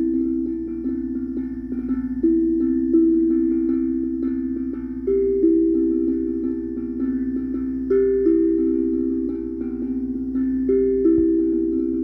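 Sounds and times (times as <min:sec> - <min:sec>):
steel tongue drum notes: 0:00.0 - 0:12.0.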